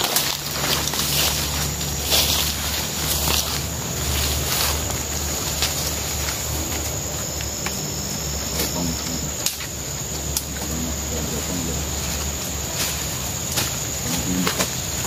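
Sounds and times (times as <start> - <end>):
dry leaves and twigs crackling: 0.0 - 15.0
high-pitched insect drone: 0.0 - 15.0.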